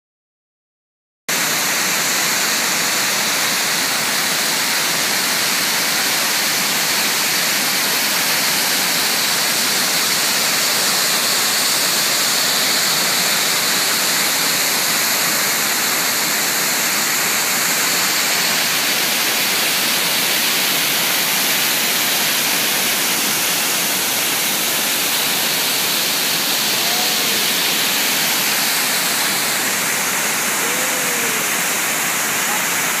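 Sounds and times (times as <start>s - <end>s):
waterfall rushing: 1.3s - 33.0s.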